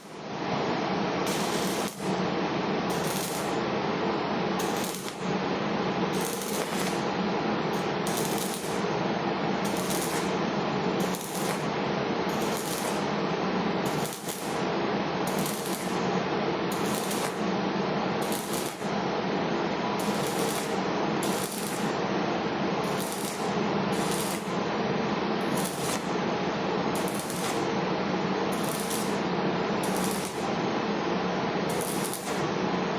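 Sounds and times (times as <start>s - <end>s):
welding arc crackling: 1.2s - 2.2s, 2.8s - 3.7s, 4.5s - 5.4s, 6.0s - 19.0s, 19.9s - 24.7s, 25.3s - 27.8s, 28.4s - 30.7s, 31.6s - 32.9s.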